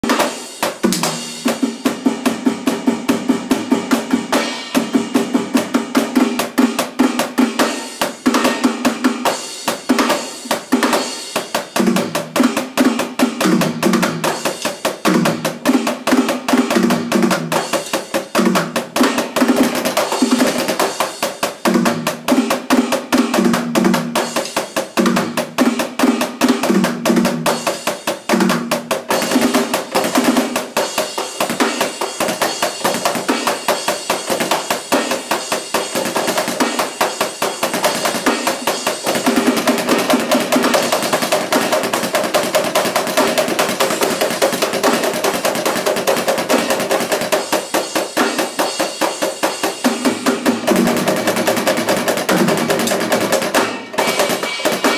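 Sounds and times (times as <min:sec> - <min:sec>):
fast electronic drumming: 0:00.0 - 0:54.9.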